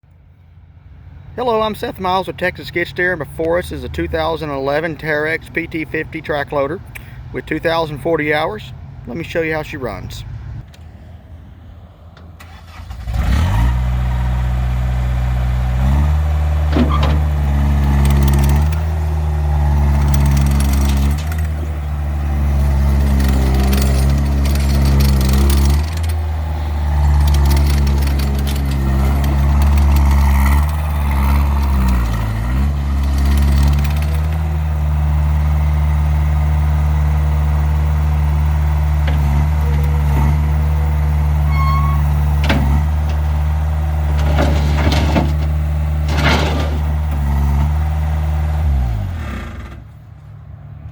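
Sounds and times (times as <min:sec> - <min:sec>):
diesel engine starting and running: 0:00.0 - 0:50.9.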